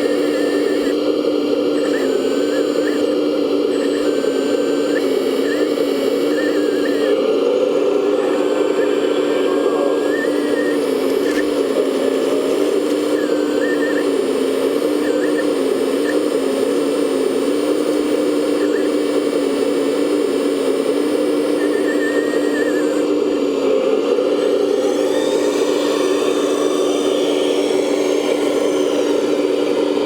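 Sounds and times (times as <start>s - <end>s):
small electric motors humming: 0.0s - 30.0s
wavering high whine: 0.0s - 30.0s.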